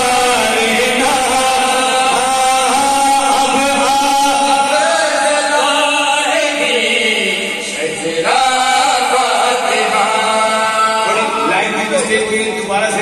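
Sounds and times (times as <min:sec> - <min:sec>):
man chanting into microphone: 0:00.0 - 0:13.0.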